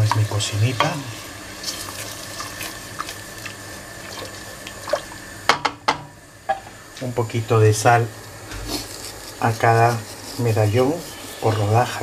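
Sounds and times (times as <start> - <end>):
sauce simmering and sizzling: 0.0 - 12.0.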